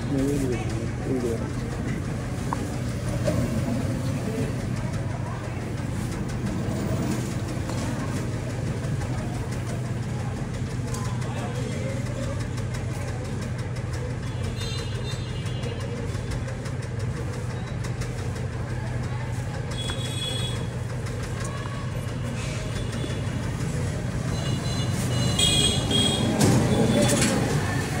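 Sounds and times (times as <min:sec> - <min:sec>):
low engine hum: 0:00.0 - 0:14.6, 0:15.3 - 0:28.0
street traffic noise: 0:00.0 - 0:28.0.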